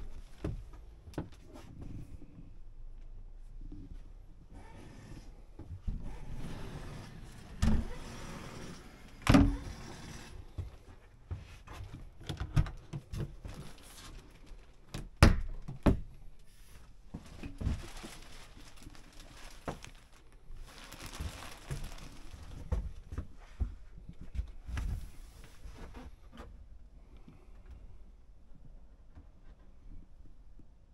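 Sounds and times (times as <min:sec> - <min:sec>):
soft shuffling handling noise: 0:00.0 - 0:12.2, 0:12.9 - 0:15.0, 0:16.3 - 0:28.0.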